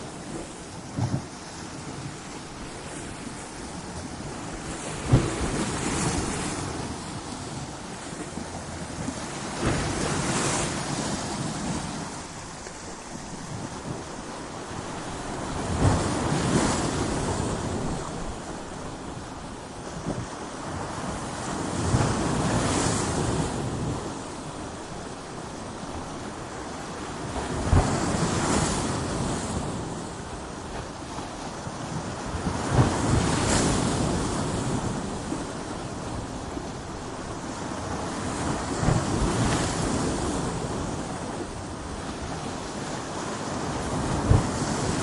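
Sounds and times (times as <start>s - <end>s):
waves crashing on rocks: 0.0s - 45.0s.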